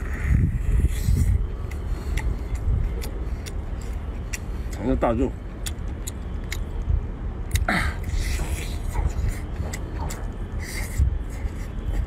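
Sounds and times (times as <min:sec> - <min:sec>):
steady low rumble: 0:00.0 - 0:12.0
wet mouth clicks while eating: 0:00.3 - 0:04.9, 0:05.5 - 0:11.8.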